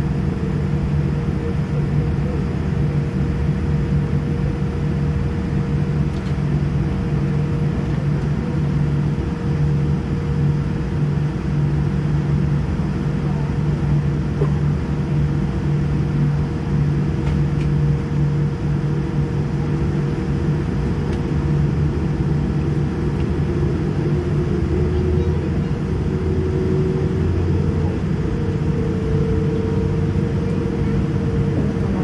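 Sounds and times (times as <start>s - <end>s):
aircraft cabin engine hum: 0.0s - 32.0s
steady engine tones: 5.5s - 32.0s.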